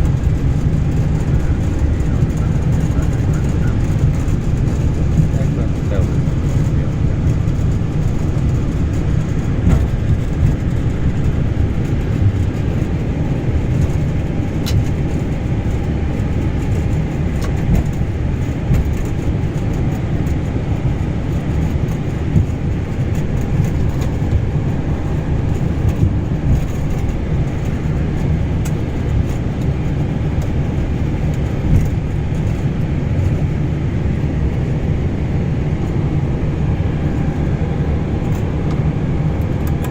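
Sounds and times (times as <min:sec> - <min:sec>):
airliner rolling on ground: 0:00.0 - 0:39.9.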